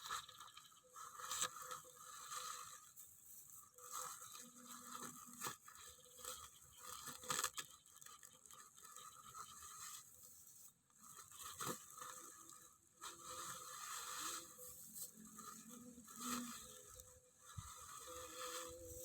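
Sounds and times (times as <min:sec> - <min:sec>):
dry material rustling and crackling: 0:00.0 - 0:19.0.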